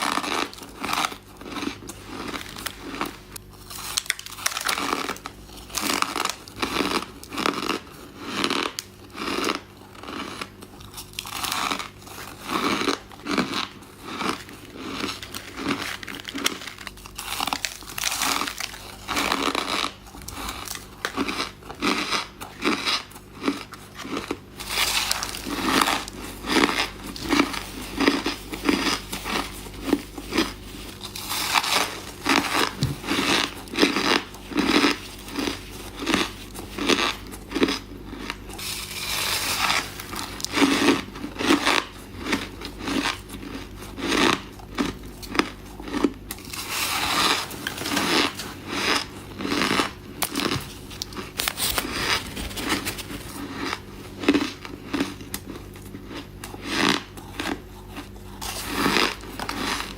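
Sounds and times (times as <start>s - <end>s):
ice crunching in mouth: 0.0s - 59.9s.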